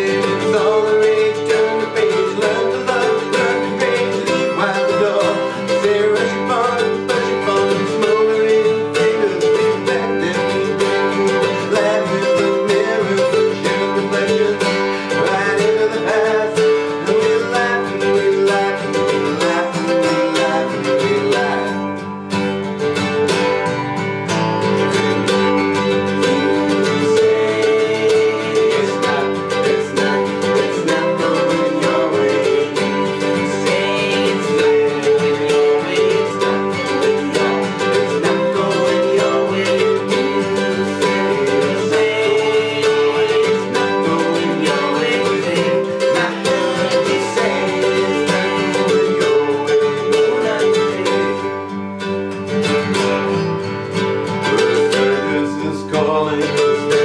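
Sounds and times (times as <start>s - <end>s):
plucked acoustic guitar: 0.0s - 57.0s.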